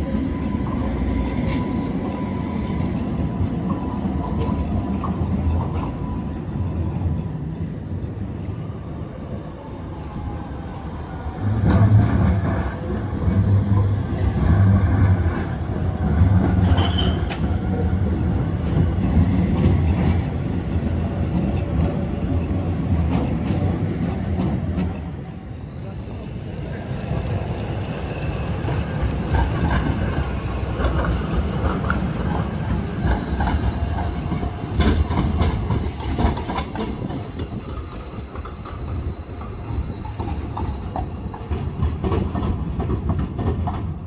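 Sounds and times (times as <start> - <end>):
trams rumbling over rails: 0.0 - 44.0.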